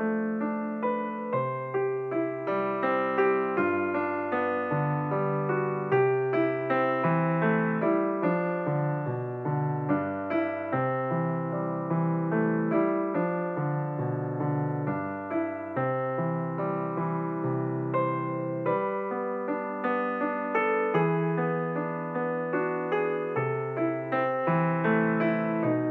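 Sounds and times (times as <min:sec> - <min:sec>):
slow piano music: 0:00.0 - 0:25.9.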